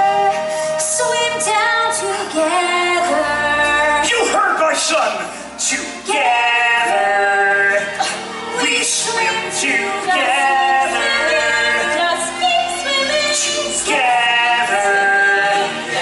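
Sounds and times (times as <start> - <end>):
orchestral backing track: 0.0 - 16.0.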